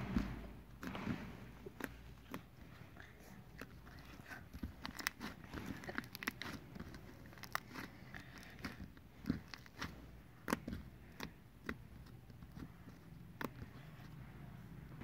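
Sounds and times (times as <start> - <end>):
slime squished by hand: 0.0 - 14.2.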